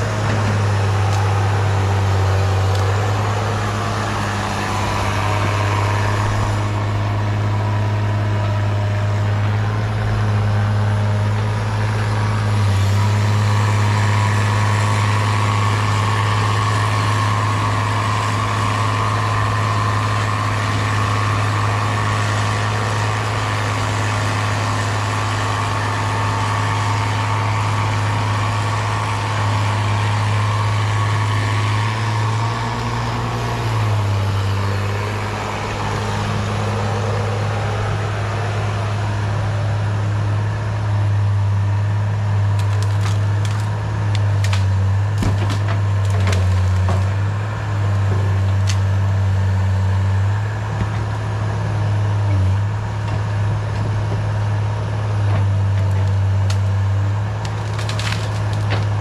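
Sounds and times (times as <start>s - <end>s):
excavator diesel engine running: 0.0s - 59.0s
wood cracking and splintering: 0.1s - 11.0s, 12.0s - 38.0s, 41.7s - 50.0s, 55.3s - 59.0s.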